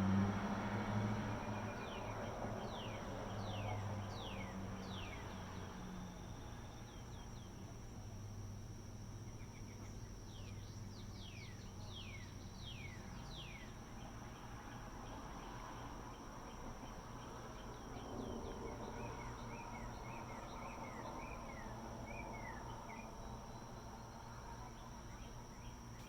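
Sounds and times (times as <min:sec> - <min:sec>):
high insect chorus: 0:00.0 - 0:26.0.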